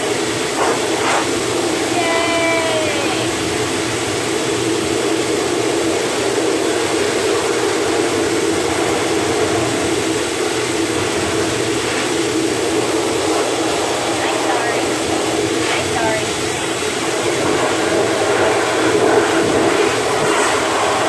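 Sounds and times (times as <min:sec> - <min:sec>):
blow dryer running: 0:00.0 - 0:21.0.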